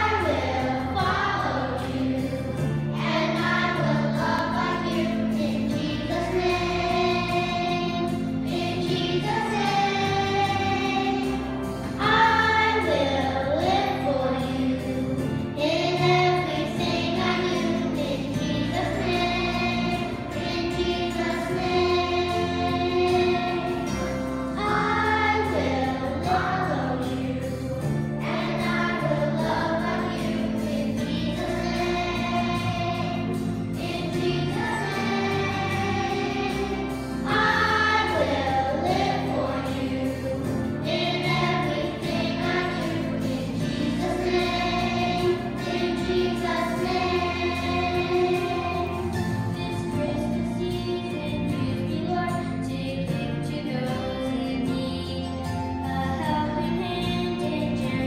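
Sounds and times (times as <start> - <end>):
instrumental accompaniment: 0.0 - 52.8
children's choir singing: 0.0 - 58.0.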